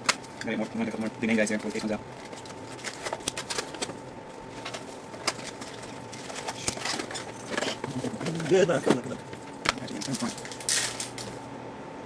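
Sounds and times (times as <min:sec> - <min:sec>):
cards and packaging handled: 0:00.0 - 0:08.7, 0:09.7 - 0:11.4
faint steady hum: 0:00.0 - 0:12.0.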